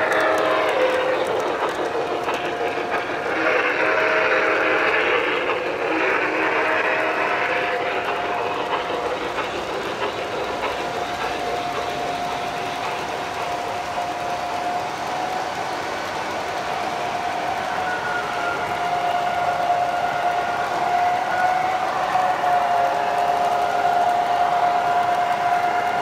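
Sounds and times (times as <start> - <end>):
hiss: 0.0 - 26.0
model train rolling on track: 0.0 - 26.0.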